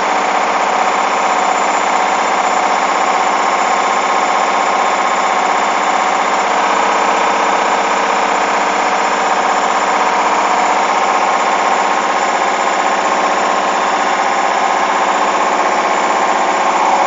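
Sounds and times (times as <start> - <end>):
washing machine motor whining: 0.0 - 17.0.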